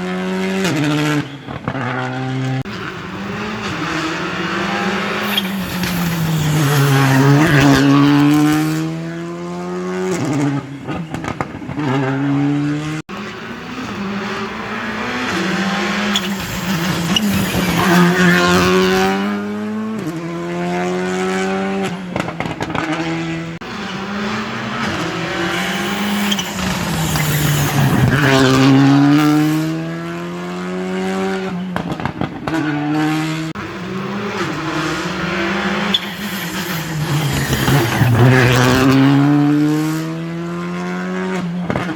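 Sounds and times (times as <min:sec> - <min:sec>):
rally cars passing at speed: 0:00.0 - 0:41.9.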